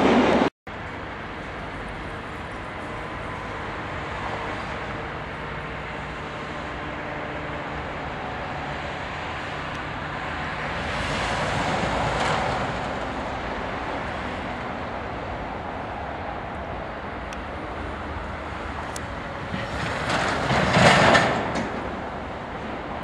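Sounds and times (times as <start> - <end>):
diesel locomotive running: 0.0 - 23.0
wagons rumbling on rails: 0.0 - 23.0.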